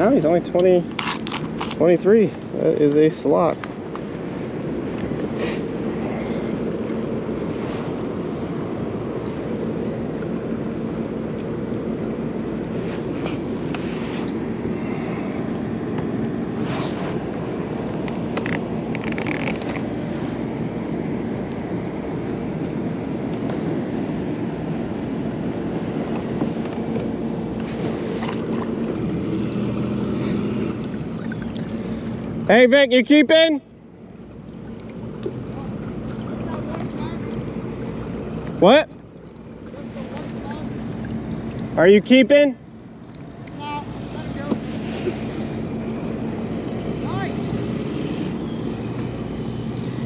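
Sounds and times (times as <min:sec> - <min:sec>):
noisy wash: 0:00.0 - 0:50.0
steady motor hum: 0:00.0 - 0:50.0.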